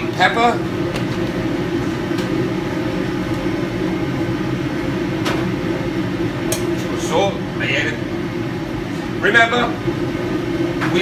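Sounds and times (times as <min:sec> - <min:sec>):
exhaust hood fan drone: 0:00.0 - 0:11.0.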